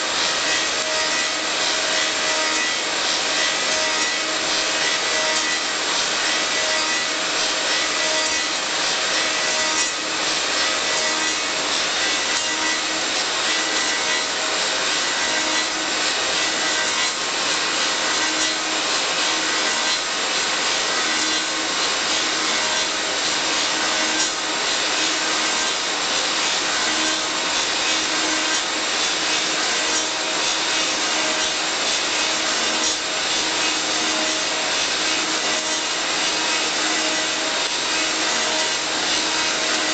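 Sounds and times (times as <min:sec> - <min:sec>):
wood rasping under cutters: 0:00.0 - 0:39.9.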